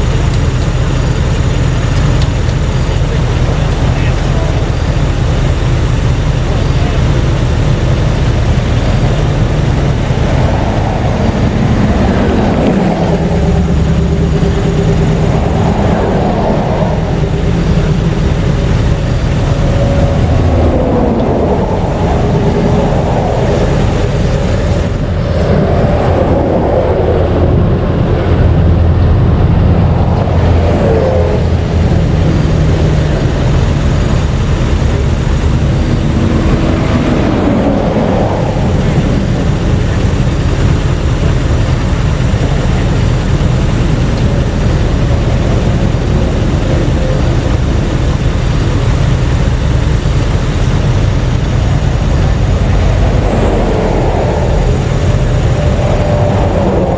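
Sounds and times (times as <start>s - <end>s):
traffic roar: 0.0s - 56.9s
vehicles passing by: 0.0s - 56.9s.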